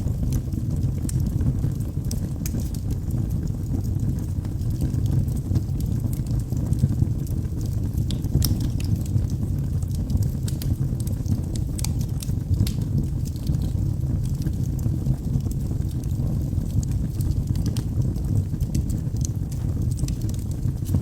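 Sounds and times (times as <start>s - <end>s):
fire flames roaring: 0.0s - 21.0s
logs crackling and popping: 0.0s - 21.0s.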